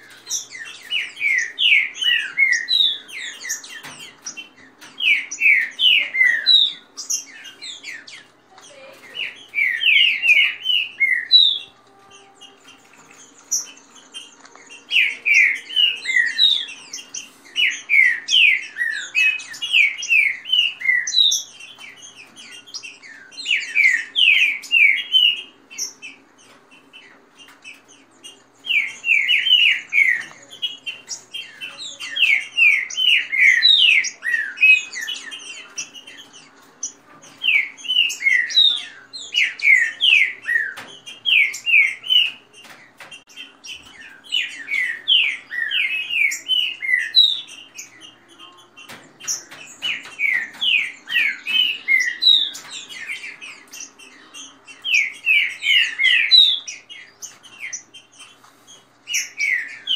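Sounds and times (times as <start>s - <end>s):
birds singing whistled notes: 0.0s - 59.9s.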